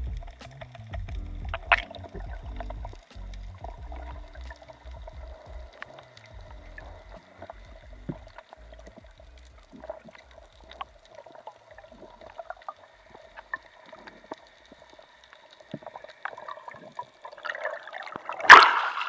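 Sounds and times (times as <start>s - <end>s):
faint underwater hum: 0.0s - 19.0s
low rumble of water movement: 0.0s - 19.0s
small clicks and crackles: 0.0s - 19.0s.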